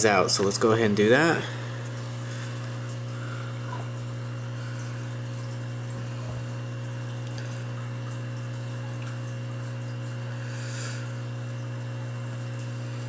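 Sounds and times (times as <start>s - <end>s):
aquarium air pump humming: 0.0s - 13.0s.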